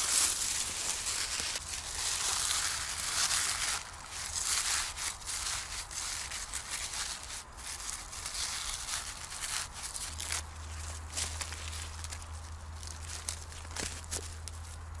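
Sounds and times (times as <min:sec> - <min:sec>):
dry leaves and twigs crunching: 0:00.0 - 0:15.0.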